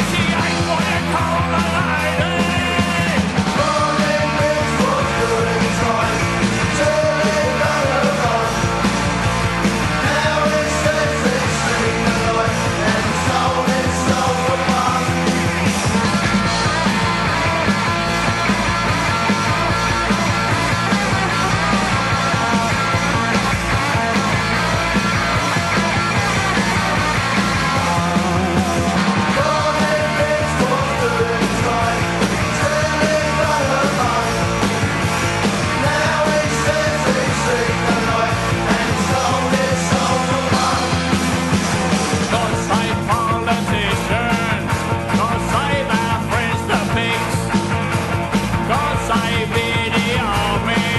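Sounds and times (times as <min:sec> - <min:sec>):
punk rock band playing: 0:00.0 - 0:50.9.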